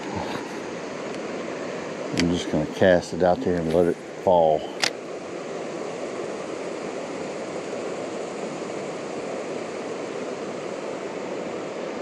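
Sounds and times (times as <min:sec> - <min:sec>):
river water flowing over rocks: 0:00.0 - 0:12.0.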